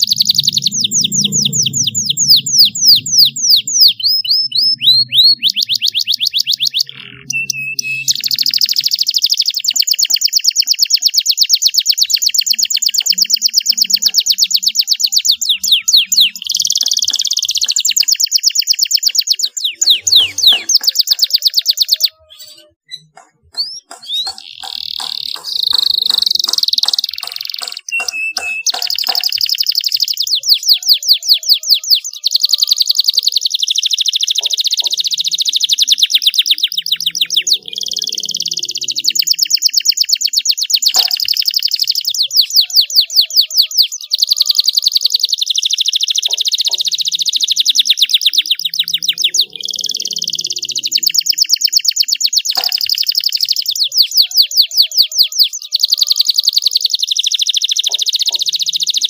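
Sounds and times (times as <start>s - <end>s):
canary trilling song: 0.0s - 59.0s.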